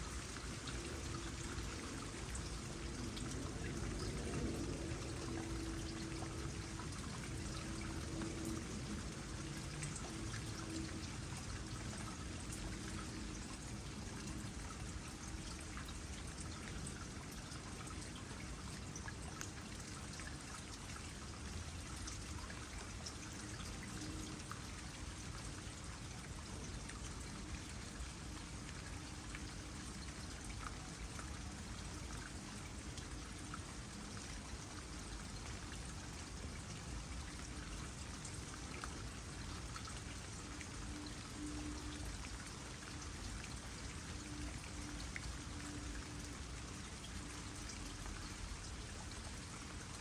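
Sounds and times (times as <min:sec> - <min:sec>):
light rain pattering: 0:00.0 - 0:50.0
water trickling into pond: 0:00.0 - 0:50.0.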